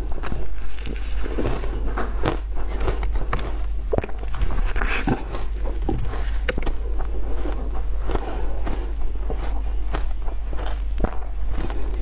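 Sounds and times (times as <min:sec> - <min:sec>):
ice being bitten and chewed: 0:00.0 - 0:12.0.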